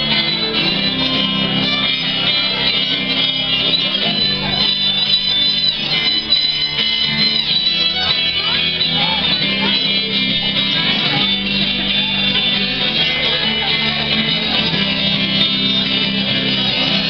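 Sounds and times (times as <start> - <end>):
folk band playing live: 0.0 - 17.0
guitar: 0.0 - 17.0.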